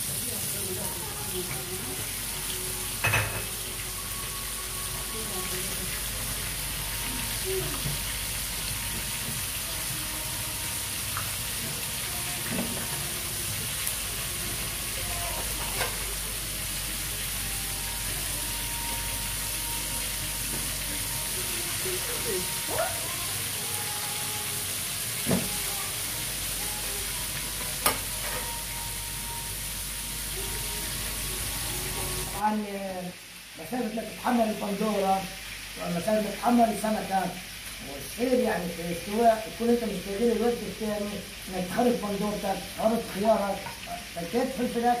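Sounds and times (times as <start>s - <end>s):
fish frying in hot oil: 0.0s - 45.0s.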